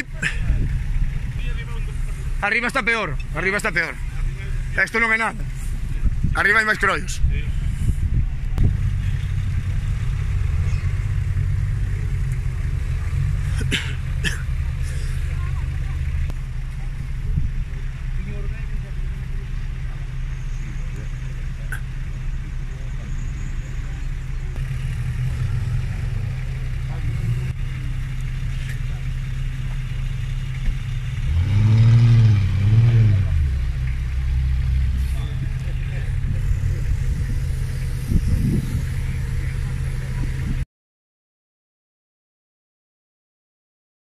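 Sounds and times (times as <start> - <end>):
engine droning at low revs: 0.0 - 40.6.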